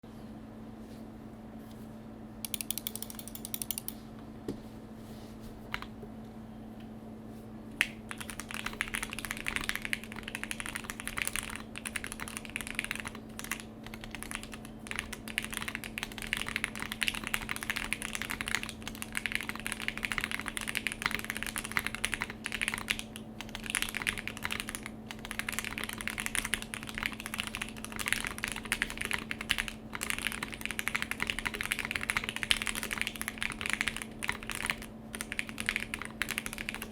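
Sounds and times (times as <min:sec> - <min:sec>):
mechanical keyboard typing: 0:02.5 - 0:04.0, 0:08.1 - 0:36.9.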